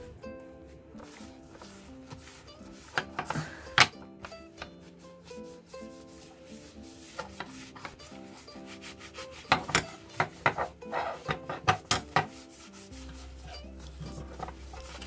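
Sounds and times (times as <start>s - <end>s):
background music: 0.0s - 15.0s
cloth wiping a metal blade: 0.7s - 15.0s.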